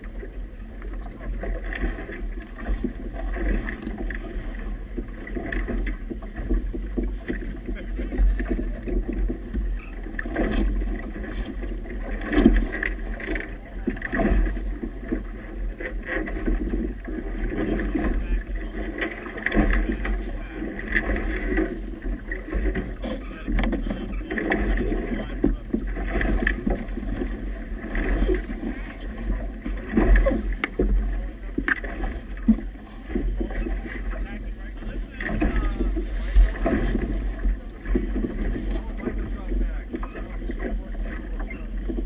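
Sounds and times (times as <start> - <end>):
water slapping against boat hull: 0.0 - 42.0.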